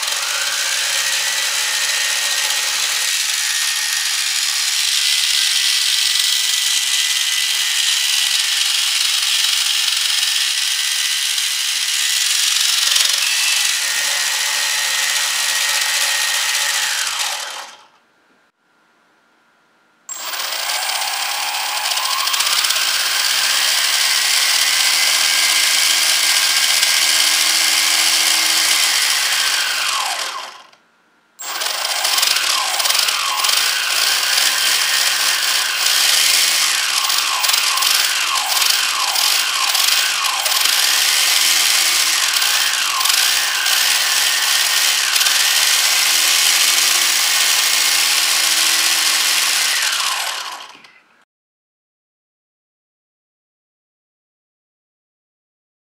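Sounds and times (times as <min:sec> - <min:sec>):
electric motor whining: 0:00.0 - 0:11.5, 0:12.1 - 0:17.9, 0:20.1 - 0:30.8, 0:31.4 - 0:51.0.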